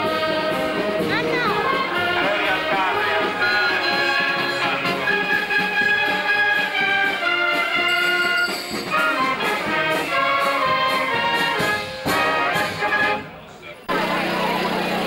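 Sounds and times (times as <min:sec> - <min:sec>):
street brass band playing slow tune: 0:00.0 - 0:15.0.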